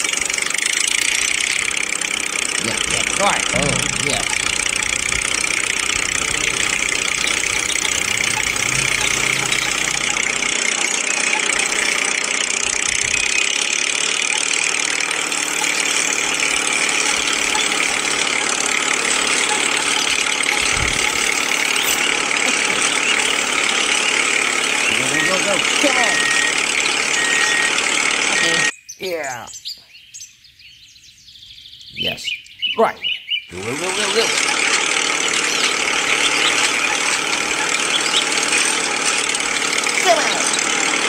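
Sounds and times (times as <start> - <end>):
engine running: 0.0 - 28.8, 33.5 - 41.0.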